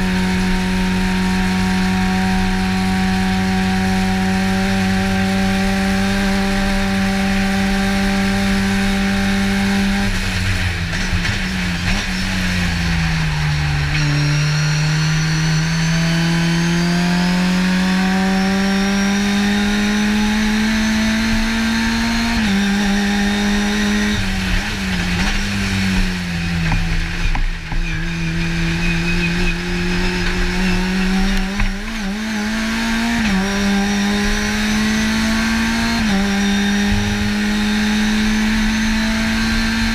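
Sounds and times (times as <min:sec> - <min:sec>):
race car engine revving: 0:00.0 - 0:39.9
road and tyre noise: 0:00.0 - 0:39.9.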